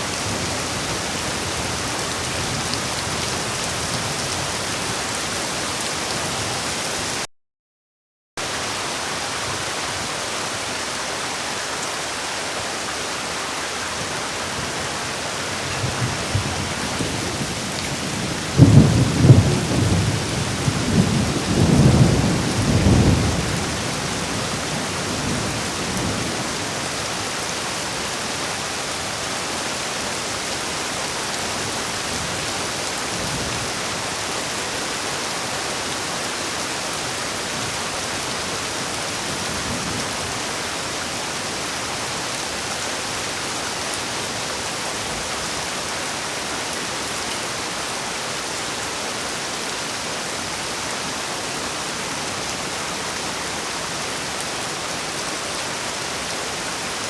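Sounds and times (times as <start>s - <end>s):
heavy rain falling: 0.0s - 7.3s, 8.4s - 57.0s.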